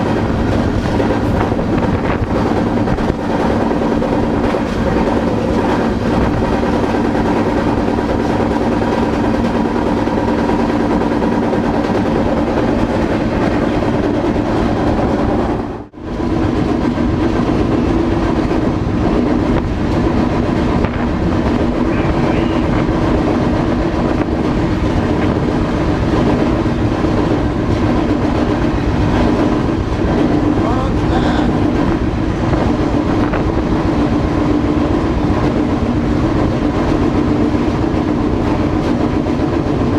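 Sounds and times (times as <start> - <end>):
freight train rumbling and rattling: 0.0 - 39.9
steady drone: 0.0 - 39.9.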